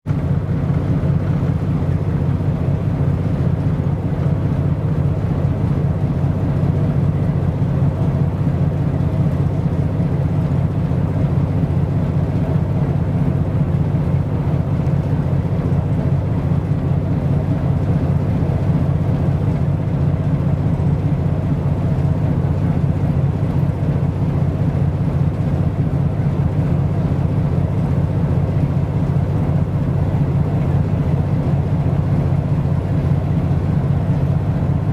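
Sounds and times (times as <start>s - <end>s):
ship engine drone: 0.1s - 34.9s.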